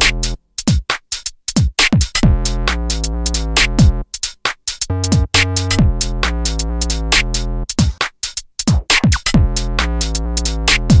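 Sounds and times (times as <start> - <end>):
drum machine beat: 0.0 - 11.0.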